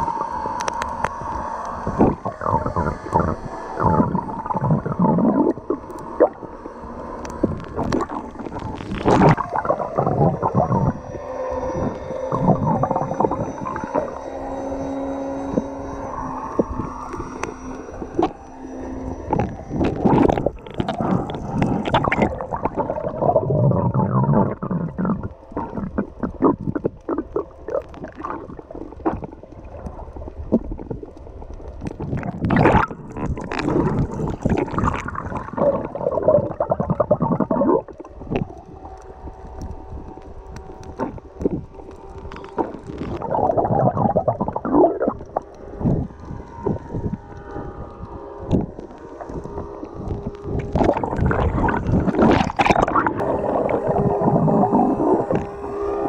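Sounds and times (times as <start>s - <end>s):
steady hum: 0.0s - 56.0s
water sloshing and gurgling underwater: 0.0s - 56.0s.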